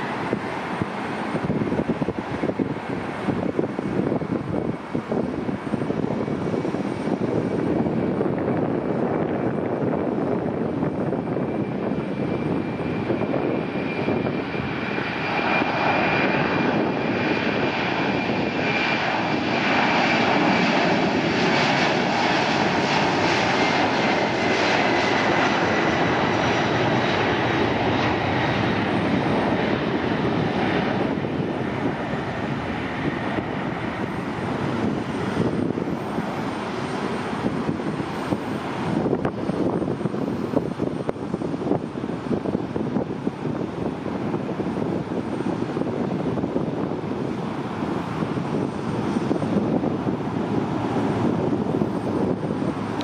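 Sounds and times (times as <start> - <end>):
jet engines at takeoff thrust: 0.0 - 53.0.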